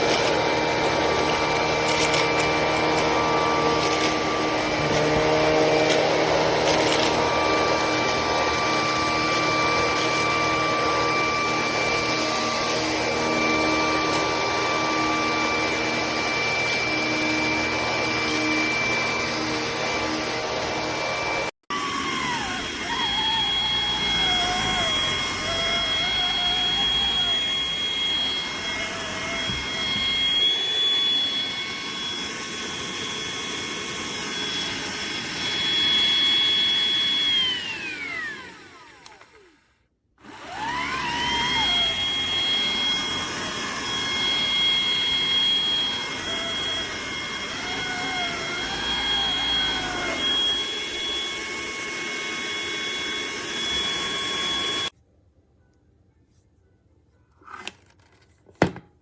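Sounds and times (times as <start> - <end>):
vacuum cleaner whining: 0.0 - 55.0.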